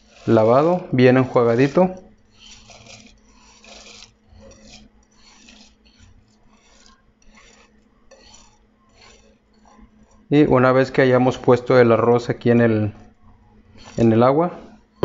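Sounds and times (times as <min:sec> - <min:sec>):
spatula scraping a plate: 0:00.0 - 0:15.0.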